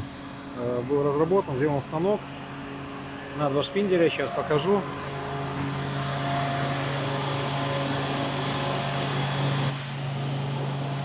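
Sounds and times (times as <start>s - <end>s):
loud machine whirring: 0.0s - 11.0s
machine motor hum with whine: 0.0s - 11.0s.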